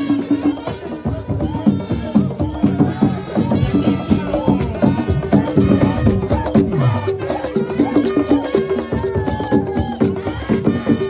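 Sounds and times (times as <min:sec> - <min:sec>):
hand drums fast rhythm: 0:00.0 - 0:11.0
light percussion: 0:00.0 - 0:11.0
voices singing: 0:00.0 - 0:11.0.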